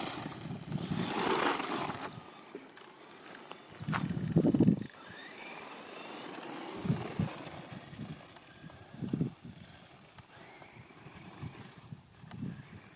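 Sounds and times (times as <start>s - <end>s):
electric motor whine: 0.0s - 12.9s.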